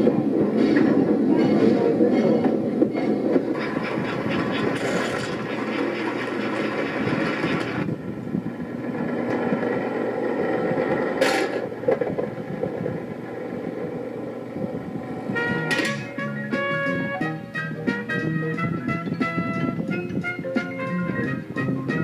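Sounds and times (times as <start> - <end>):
toy train rumbling on track: 0.0 - 22.0.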